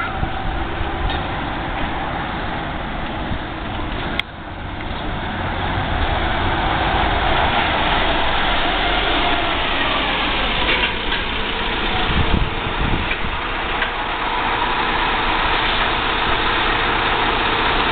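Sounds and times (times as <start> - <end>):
bus engine: 0.0 - 17.9
street traffic noise: 0.0 - 17.9.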